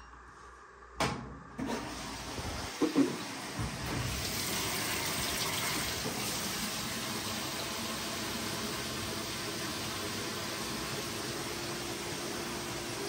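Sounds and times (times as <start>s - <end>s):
water rushing into washer: 1.6s - 13.0s.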